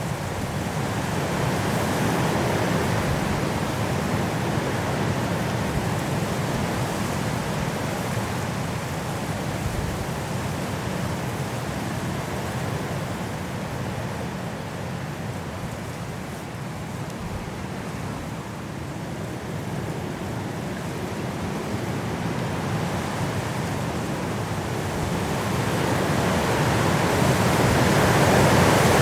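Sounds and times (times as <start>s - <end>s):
strong wind through trees: 0.0s - 29.0s.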